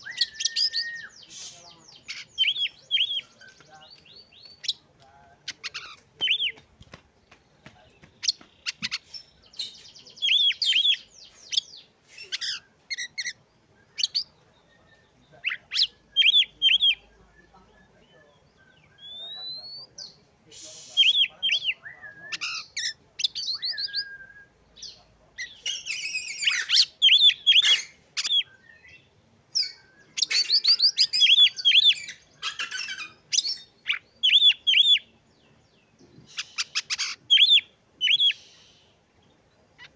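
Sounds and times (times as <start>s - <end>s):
bird singing whistled notes: 0.0s - 4.8s, 8.3s - 35.1s, 36.3s - 38.8s.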